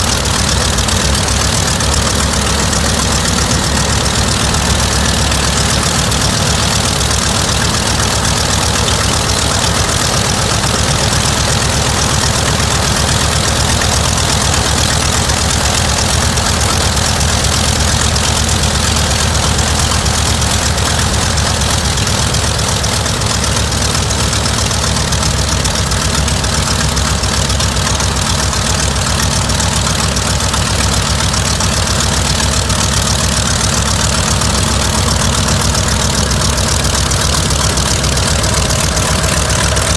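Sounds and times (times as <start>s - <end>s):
aircraft radial engine running: 0.0s - 39.9s.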